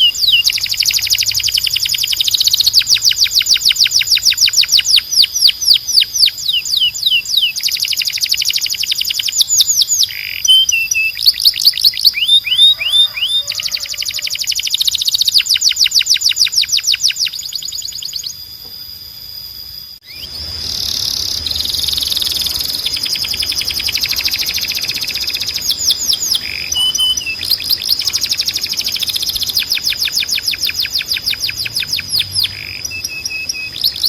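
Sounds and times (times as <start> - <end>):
canary singing: 0.0 - 19.0, 19.6 - 34.0.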